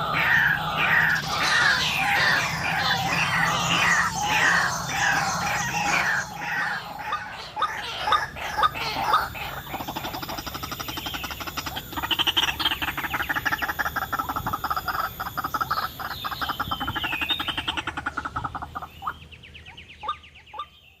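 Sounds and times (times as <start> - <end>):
waterhen rattling chatter: 0.0 - 19.4.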